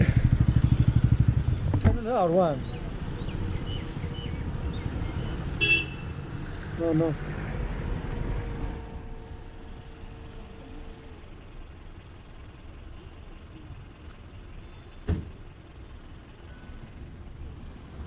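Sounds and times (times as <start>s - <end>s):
road vehicles rumbling: 0.0s - 18.0s.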